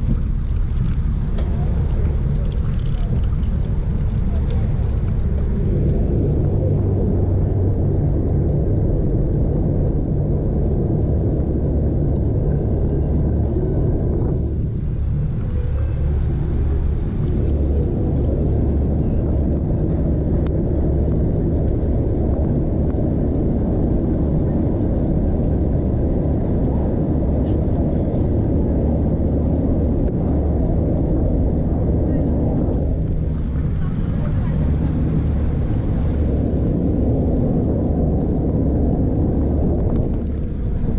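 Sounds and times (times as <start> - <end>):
bicycle road noise: 0.0 - 40.9
wind rumble on microphone: 0.0 - 40.9.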